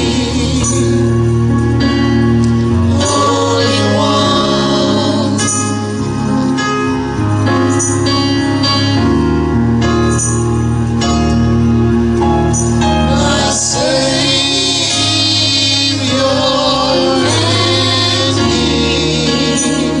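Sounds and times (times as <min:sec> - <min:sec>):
gospel singing: 0:00.0 - 0:08.7, 0:12.4 - 0:20.0
instrumental accompaniment: 0:00.0 - 0:20.0.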